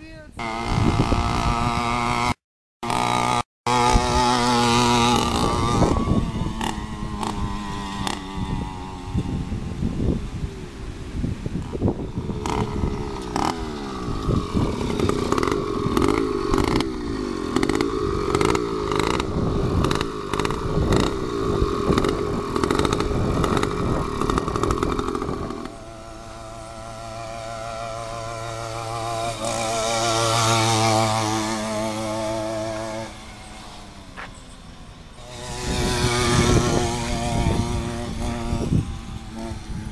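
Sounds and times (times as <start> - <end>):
two-stroke engine buzzing: 0.3 - 39.9
rough buffeting: 0.4 - 39.9.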